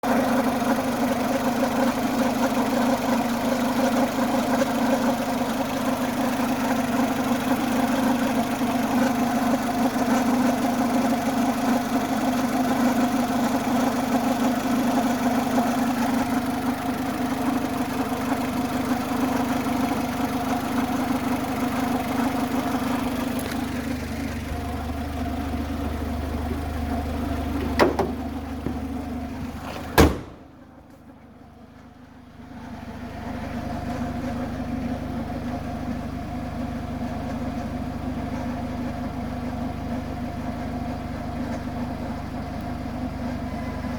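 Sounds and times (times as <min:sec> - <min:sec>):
car engine running with whirring: 0:00.0 - 0:43.9.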